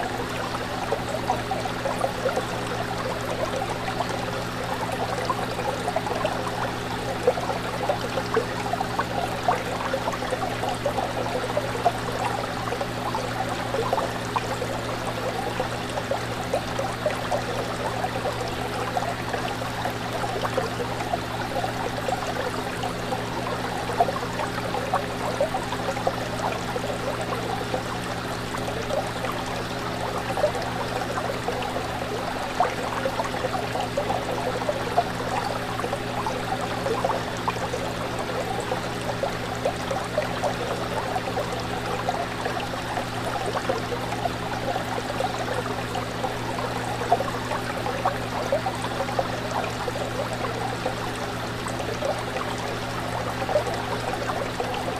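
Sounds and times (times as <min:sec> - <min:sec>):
fish tank water trickling: 0:00.0 - 0:54.9.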